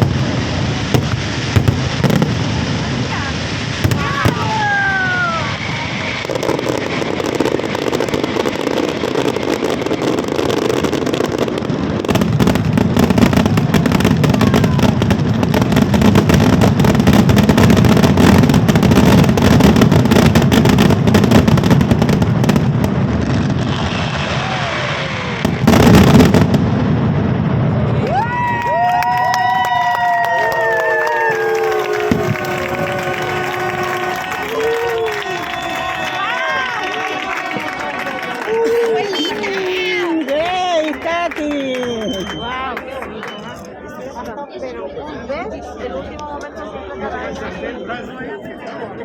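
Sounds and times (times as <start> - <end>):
fireworks bangs and crackling: 0.0 - 43.8.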